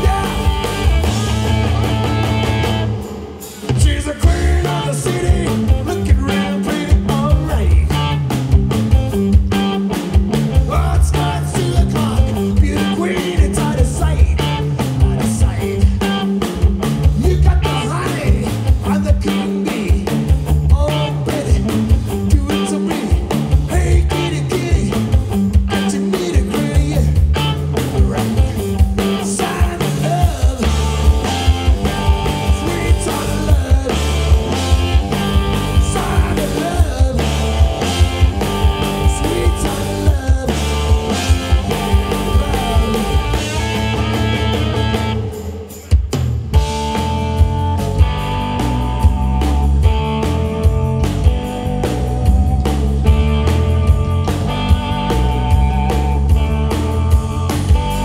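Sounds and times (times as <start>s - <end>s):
bass guitar: 0.0s - 58.0s
distorted electric guitar: 0.0s - 58.0s
drum kit beat: 0.0s - 58.0s.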